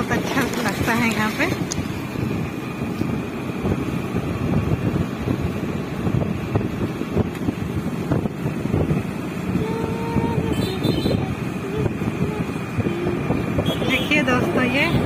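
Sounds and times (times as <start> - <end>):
motorbike engine: 0.0 - 15.0
road noise: 0.0 - 15.0
wind buffeting microphone: 0.0 - 15.0.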